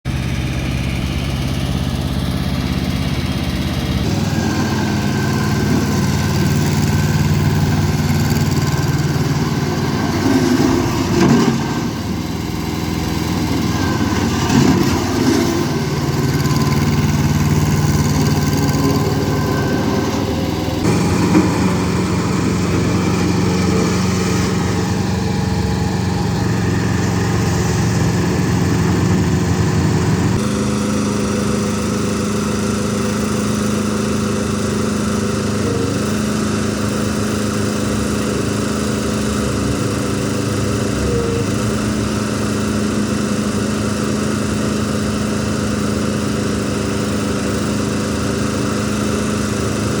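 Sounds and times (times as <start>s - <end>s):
loader diesel engine running: 0.0s - 50.0s.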